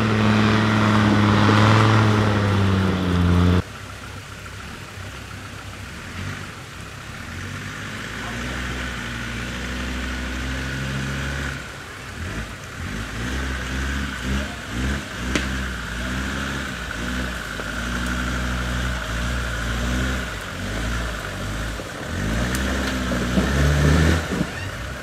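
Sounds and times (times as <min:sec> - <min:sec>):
diesel engine revving in mud: 0:00.0 - 0:25.0.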